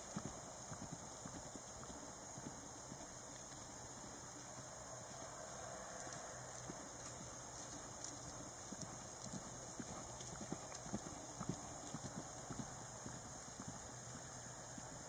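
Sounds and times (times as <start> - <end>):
horse hoofbeats on grass: 0.0 - 15.0.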